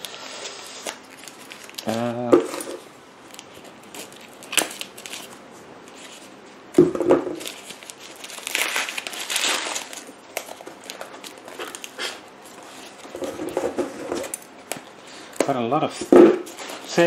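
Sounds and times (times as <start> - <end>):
paper and tape crinkling and tearing: 0.0 - 6.3, 7.3 - 14.9.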